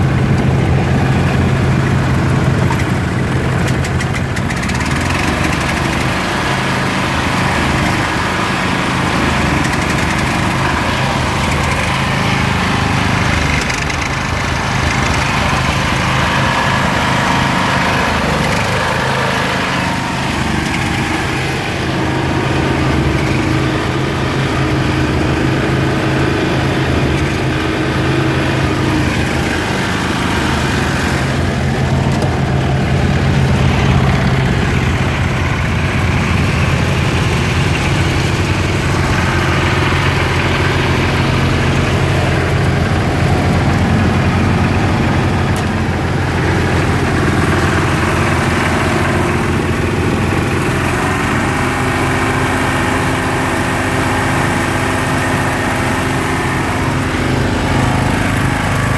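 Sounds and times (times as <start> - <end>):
single-cylinder engine running: 0.0 - 58.9.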